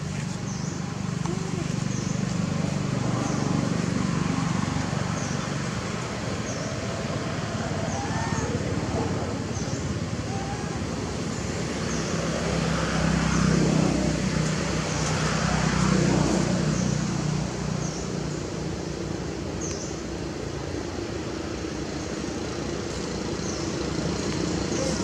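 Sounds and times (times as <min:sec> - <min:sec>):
outdoor background noise: 0:00.0 - 0:25.0
vehicle engine running: 0:00.0 - 0:25.0.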